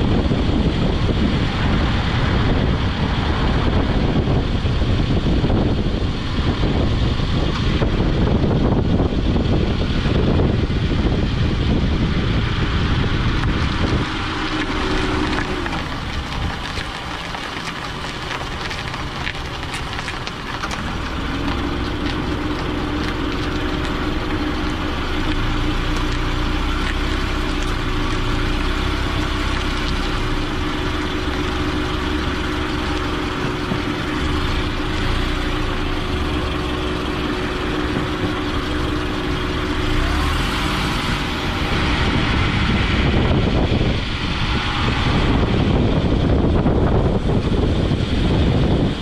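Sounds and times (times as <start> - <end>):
car engine hum: 0.0 - 49.0
road and tyre noise: 0.0 - 49.0
wind buffeting microphone: 0.0 - 49.0.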